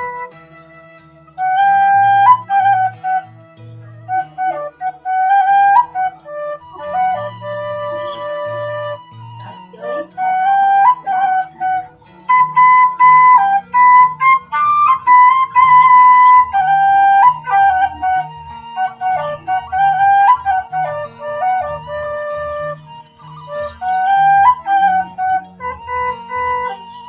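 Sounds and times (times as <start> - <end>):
bamboo flute melody: 0.0 - 27.0.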